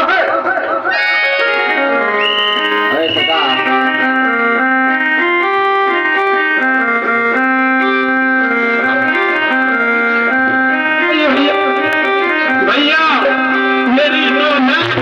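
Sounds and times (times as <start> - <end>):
keyboard melody: 0.6 - 15.0.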